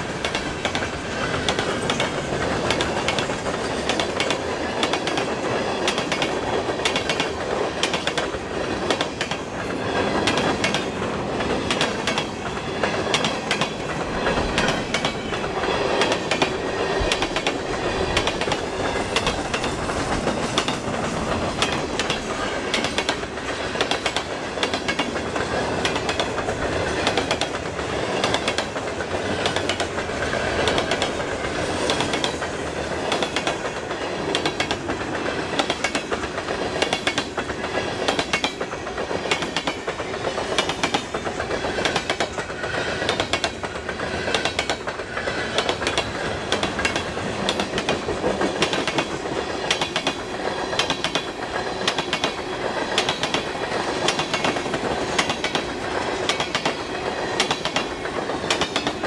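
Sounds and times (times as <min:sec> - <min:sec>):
train cars rolling past: 0:00.0 - 0:59.0
wheels clicking over rail joints: 0:00.0 - 0:59.0.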